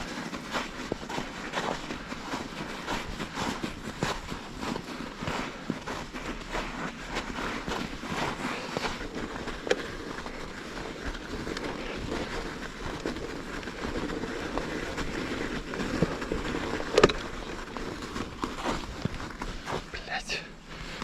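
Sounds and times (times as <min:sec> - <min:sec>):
bicycle tyres on crusted snow: 0:00.0 - 0:21.0.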